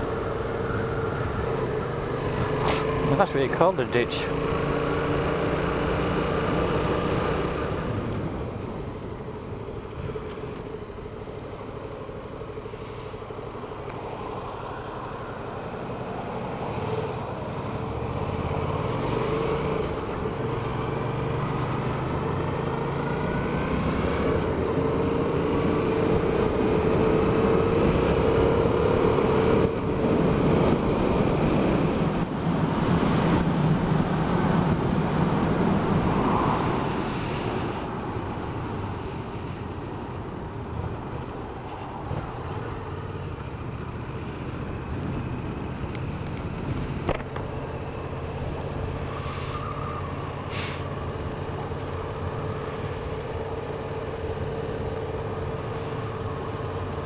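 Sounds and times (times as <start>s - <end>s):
motorcycle engine accelerating: 0.0s - 13.9s, 16.8s - 57.0s.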